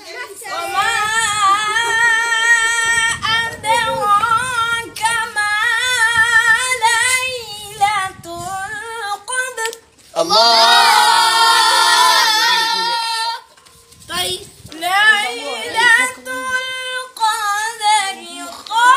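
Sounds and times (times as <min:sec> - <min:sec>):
boy chanting recitation: 0:00.0 - 0:10.6, 0:14.1 - 0:18.9.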